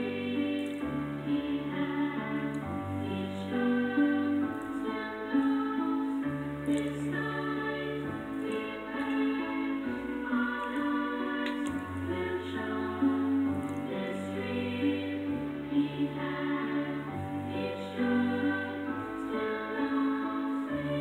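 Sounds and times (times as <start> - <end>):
singing voices: 0.0 - 21.0.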